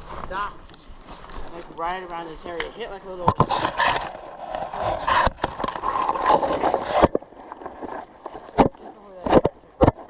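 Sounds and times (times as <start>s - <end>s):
footsteps on dry leaves and twigs: 0.0s - 8.6s.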